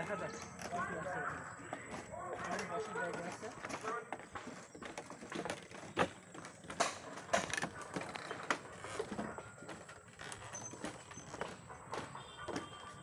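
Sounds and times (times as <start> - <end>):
footsteps on wooden boards: 0.0 - 13.0.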